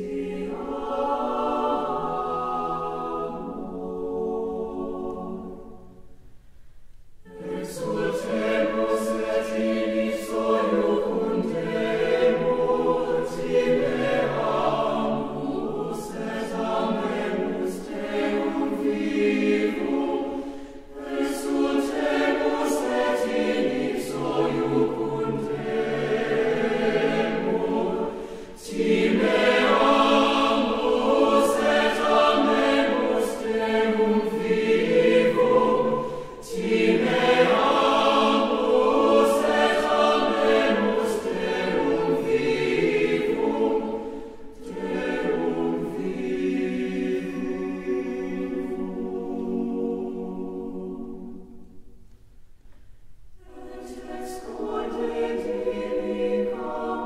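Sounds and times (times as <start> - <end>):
choir singing: 0.0 - 6.2, 7.2 - 52.1, 53.3 - 57.0.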